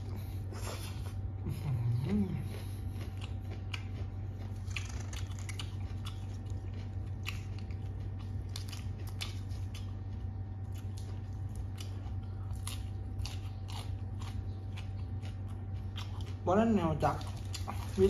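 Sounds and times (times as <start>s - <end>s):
chewing: 0.0s - 18.0s
steady low hum: 0.0s - 18.0s
crisp vegetables being torn: 3.1s - 18.0s.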